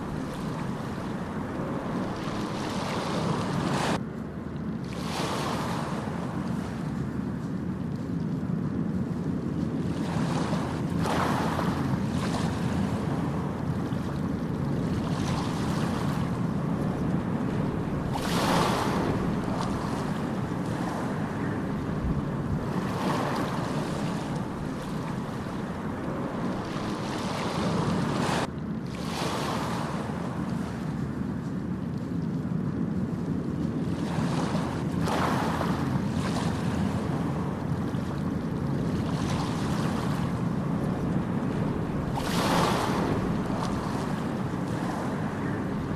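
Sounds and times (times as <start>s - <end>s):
waves breaking: 0.0s - 4.0s, 4.6s - 45.9s.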